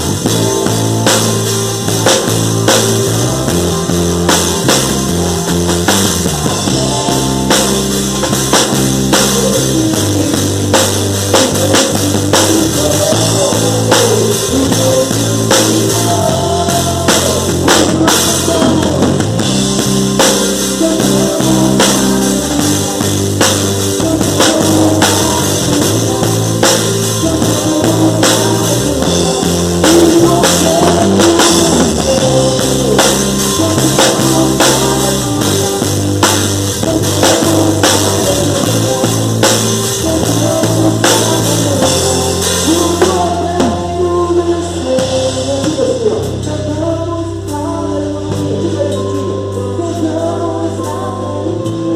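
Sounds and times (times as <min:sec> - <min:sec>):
drum kit beat: 0:00.0 - 0:46.7
gospel band playing: 0:00.0 - 0:51.9
people singing: 0:00.0 - 0:51.9.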